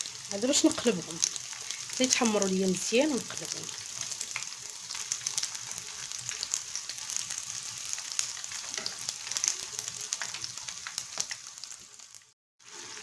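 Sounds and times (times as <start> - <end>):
spring rolls deep-frying in oil: 0.0 - 13.0.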